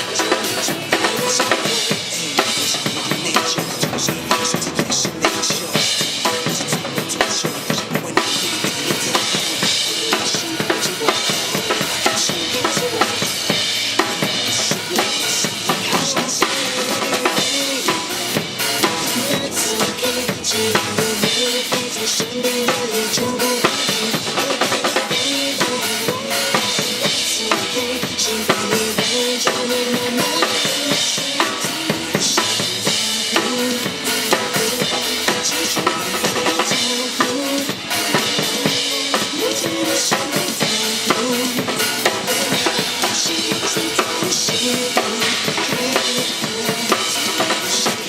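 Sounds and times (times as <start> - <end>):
drum kit beat: 0.0 - 48.0
live pop band instrumental: 0.0 - 48.0.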